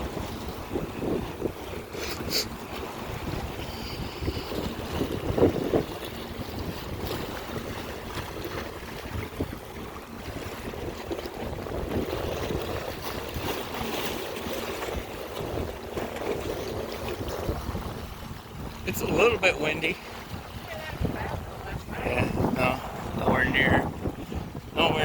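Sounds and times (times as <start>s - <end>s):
waves washing on shore: 0.0s - 25.0s
wind buffeting microphone: 0.0s - 25.0s.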